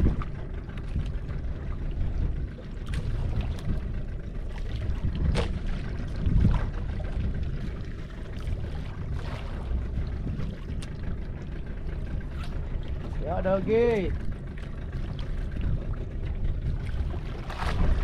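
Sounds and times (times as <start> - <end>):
water noise: 0.0 - 18.0
wind rumbling on microphone: 0.0 - 18.0.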